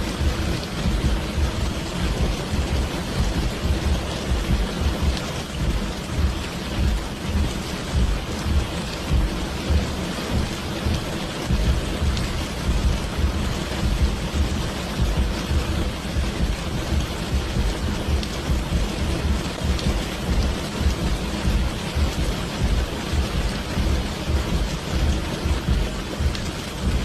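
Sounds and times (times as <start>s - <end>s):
low rumble of thunder: 0.0s - 27.0s
steady rain: 0.0s - 27.0s.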